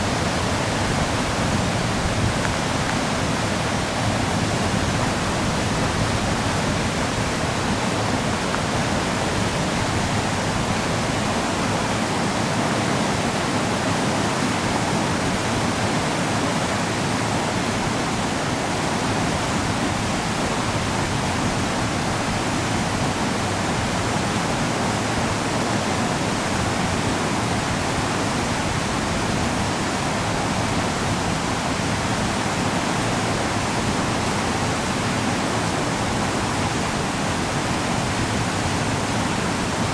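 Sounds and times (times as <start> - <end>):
river rushing in a loud roar: 0.0 - 39.9.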